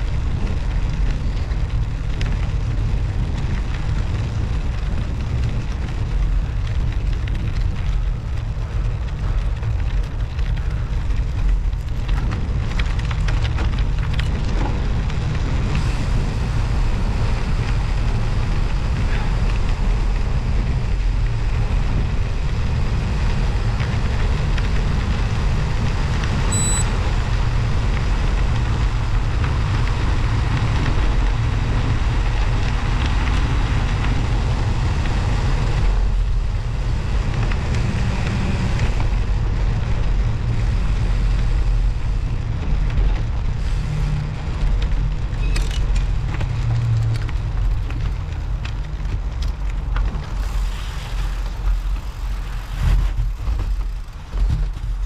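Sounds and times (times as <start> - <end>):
studded bicycle tyres rushing: 0.0 - 55.0
wind buffeting microphone: 0.0 - 55.0.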